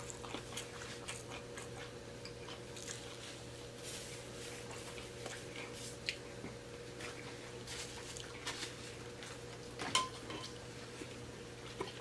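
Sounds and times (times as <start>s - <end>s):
wet chewing and squishing: 0.0s - 3.6s, 4.2s - 9.8s, 10.5s - 12.0s
faint steady hum: 0.0s - 12.0s.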